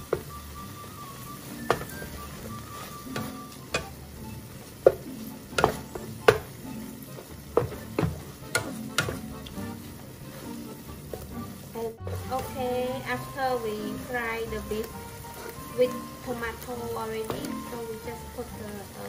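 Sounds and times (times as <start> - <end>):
meat sizzling: 0.0 - 19.0
spatula scraping a frying pan: 0.0 - 19.0.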